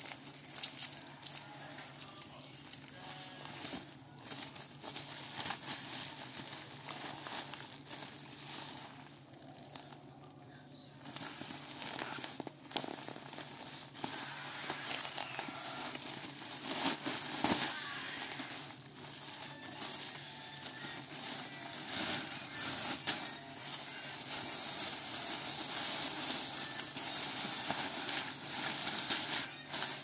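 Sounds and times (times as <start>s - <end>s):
plastic bag crinkling: 0.0s - 30.0s.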